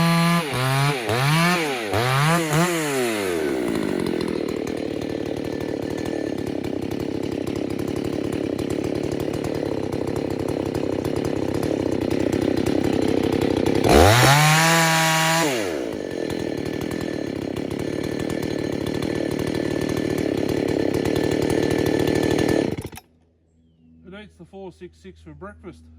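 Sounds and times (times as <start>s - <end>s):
chainsaw cutting wood: 0.0s - 23.1s.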